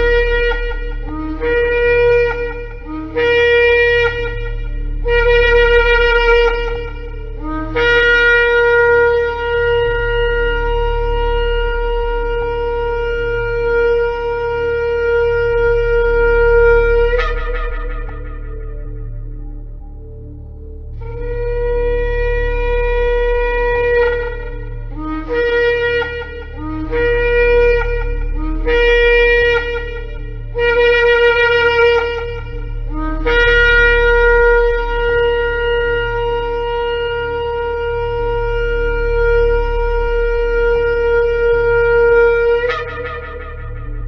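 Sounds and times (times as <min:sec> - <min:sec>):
shofar blasts: 0:00.0 - 0:20.0, 0:21.0 - 0:44.0
steady low hum: 0:00.0 - 0:44.0.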